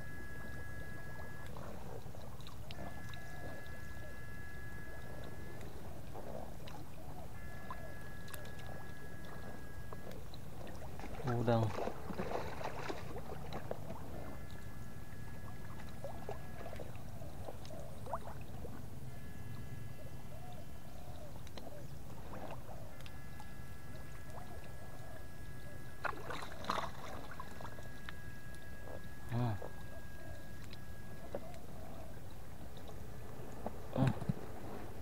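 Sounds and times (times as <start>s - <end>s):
water sloshing: 0.0s - 19.3s, 21.0s - 35.0s
faint high whine: 0.0s - 35.0s
water splashes: 0.2s - 19.0s, 21.4s - 35.0s.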